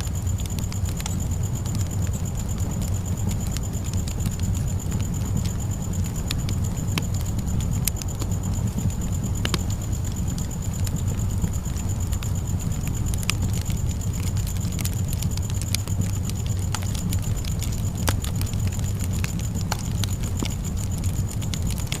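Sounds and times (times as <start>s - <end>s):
burning wood popping and crackling: 0.0s - 22.0s
campfire flames rumbling: 0.0s - 22.0s.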